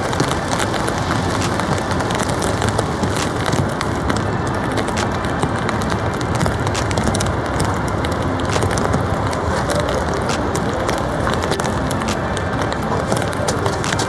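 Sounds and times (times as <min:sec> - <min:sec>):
heavy rain on a tarp: 0:00.0 - 0:14.0.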